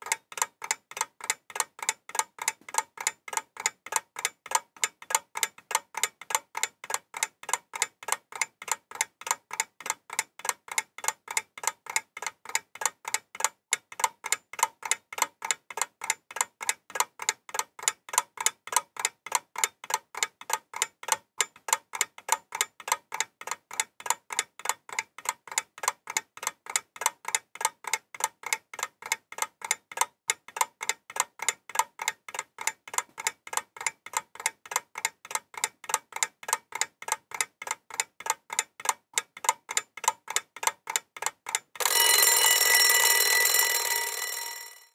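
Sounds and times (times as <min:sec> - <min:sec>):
steady ticking: 0:00.0 - 0:44.9.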